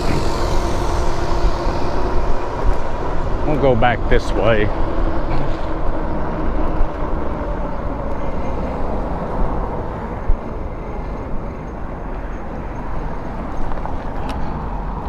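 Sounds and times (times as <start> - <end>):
tyre and road noise: 0.0 - 15.0
wind rushing over microphone: 0.0 - 15.0.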